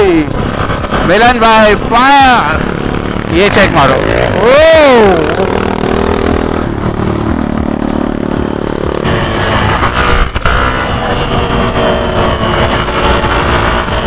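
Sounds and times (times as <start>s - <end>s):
motorcycle engine under throttle: 0.0s - 14.0s.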